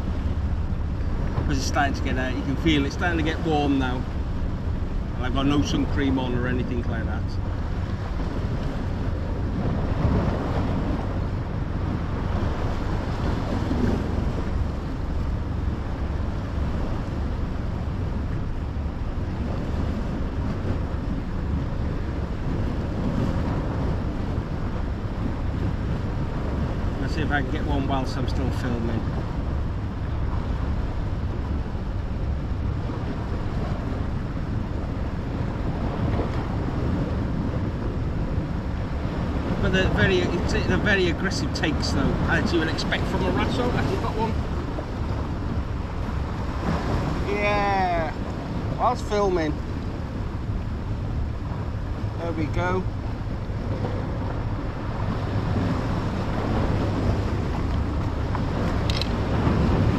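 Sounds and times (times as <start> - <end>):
sea washing against rocks: 0.0 - 59.9
wind buffeting microphone: 0.0 - 59.9.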